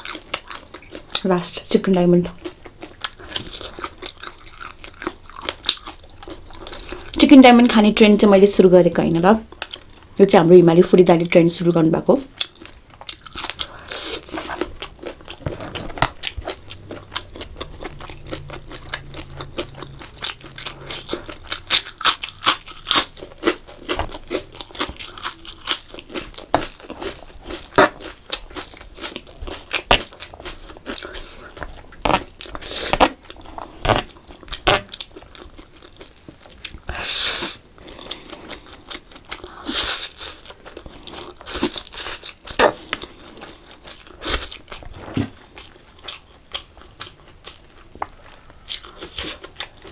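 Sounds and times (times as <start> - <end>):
person chewing crunchy food: 0.0 - 1.4, 2.2 - 7.2, 9.5 - 10.2, 12.3 - 49.9.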